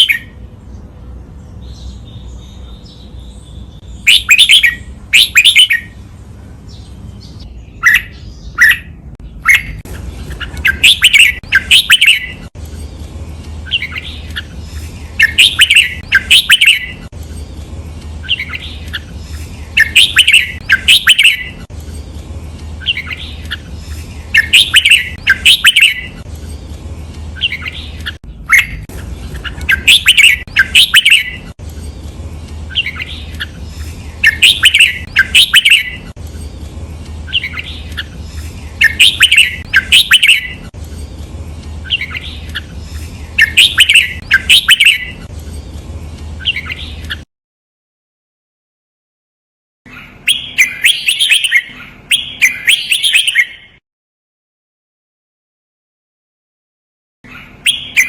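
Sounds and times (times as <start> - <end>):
low steady hum: 0.0 - 47.2
bulbul chirping song: 0.0 - 47.3, 49.9 - 53.8, 57.3 - 58.0.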